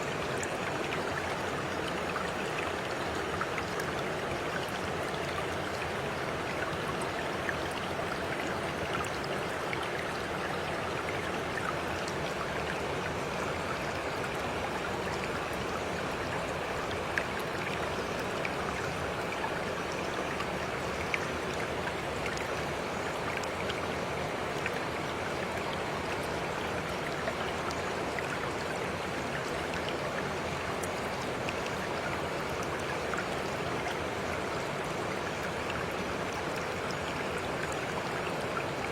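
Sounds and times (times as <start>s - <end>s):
running water in a stream: 0.0s - 38.9s.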